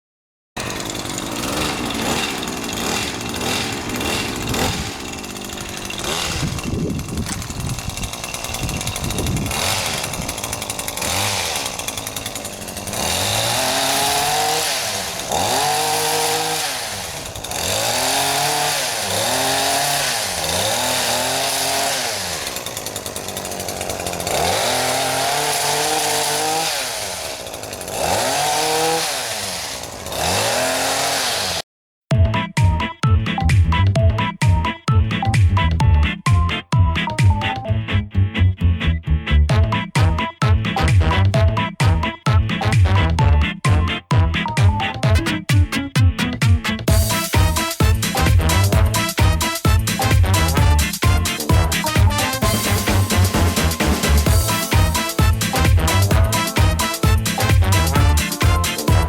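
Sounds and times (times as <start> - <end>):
chainsaw cutting and revving: 0.6 - 31.7, 39.4 - 59.0.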